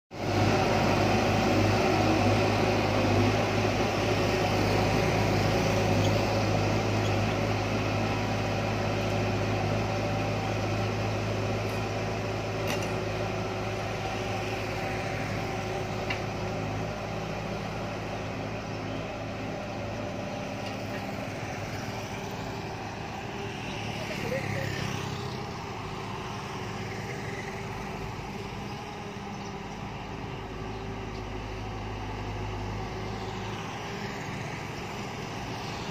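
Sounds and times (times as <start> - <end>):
bulldozer diesel engine: 0.1 - 35.9.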